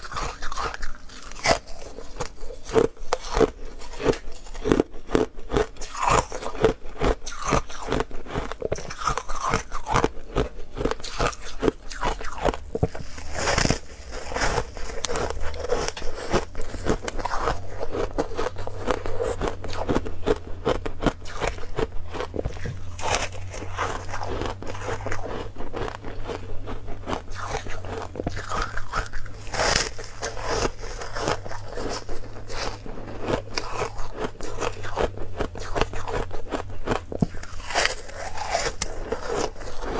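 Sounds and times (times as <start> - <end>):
ice being crunched and chewed: 0.0 - 39.9.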